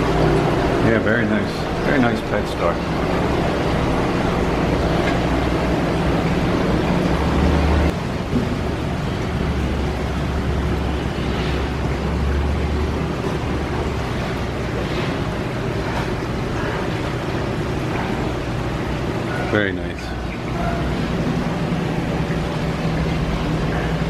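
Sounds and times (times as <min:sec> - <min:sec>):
aquarium pumps and circulating water: 0:00.0 - 0:24.0.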